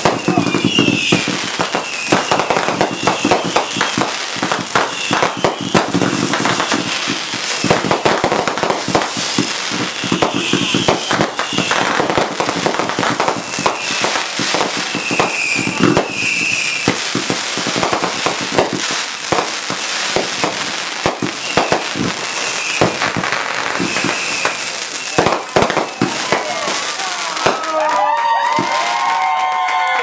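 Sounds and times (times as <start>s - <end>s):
firework bangs: 0.0s - 29.9s
firework crackling: 0.0s - 30.0s.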